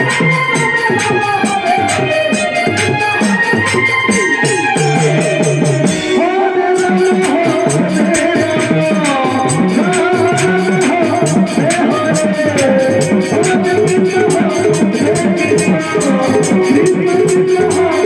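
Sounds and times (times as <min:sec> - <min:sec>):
hand drums with bending bass: 0:00.0 - 0:18.0
keyboard melody: 0:00.0 - 0:18.0
rattling percussion beat: 0:00.0 - 0:18.0.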